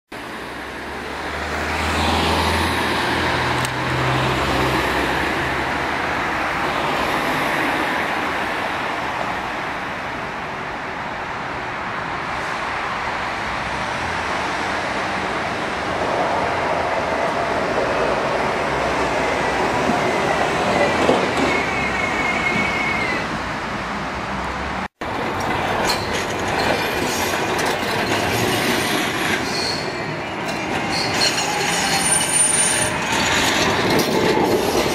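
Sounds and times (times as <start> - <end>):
street traffic: 0.1 - 34.9.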